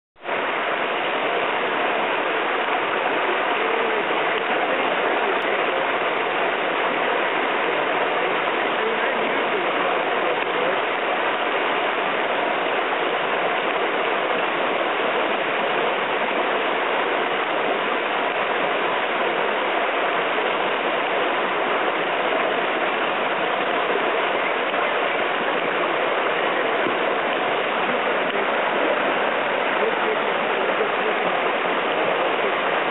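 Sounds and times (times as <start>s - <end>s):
river whitewater rushing: 0.2s - 32.9s.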